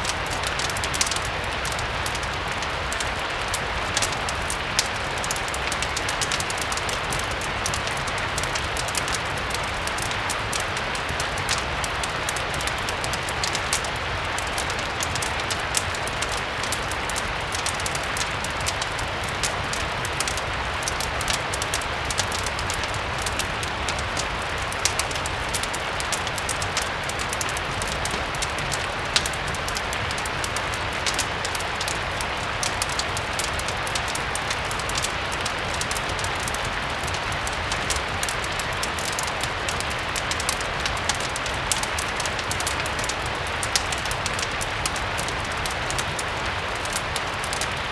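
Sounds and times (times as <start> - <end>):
fireplace crackling: 0.0 - 47.9
rain hiss: 0.0 - 47.9.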